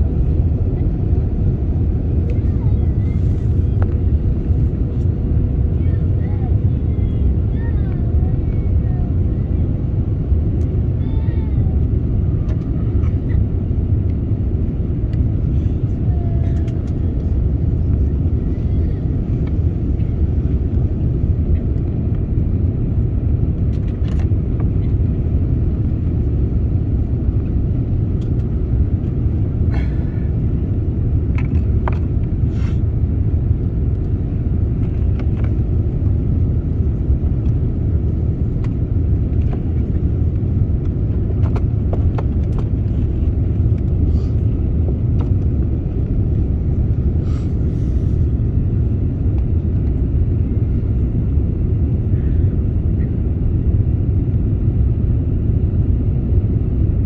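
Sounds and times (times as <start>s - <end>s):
jet airliner cabin rumble: 0.0s - 57.0s.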